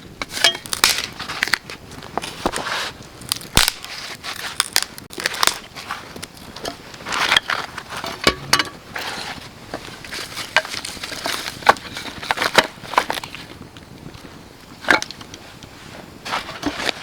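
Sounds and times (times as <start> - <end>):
dry wood snapping: 0.2 - 15.8
crunching: 0.2 - 17.0.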